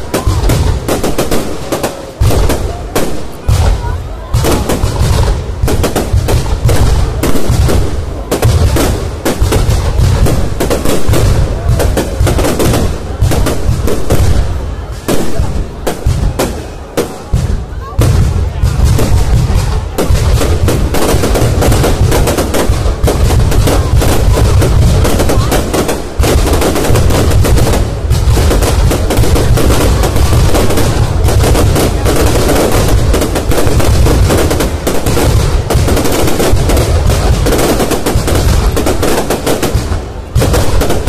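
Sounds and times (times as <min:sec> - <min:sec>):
fireworks bursting: 0:00.0 - 0:41.0.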